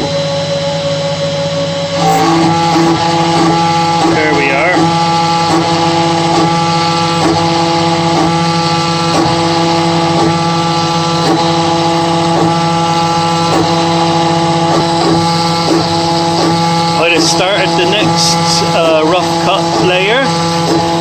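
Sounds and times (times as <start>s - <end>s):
router motor hum: 0.0s - 21.0s
cutter chewing through wood: 2.0s - 21.0s.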